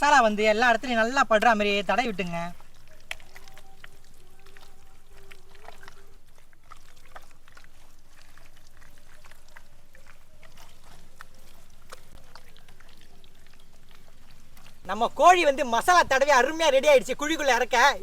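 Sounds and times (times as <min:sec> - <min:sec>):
faint steady hum: 0:00.0 - 0:18.0
wet squishing of hands on chicken: 0:00.0 - 0:18.0.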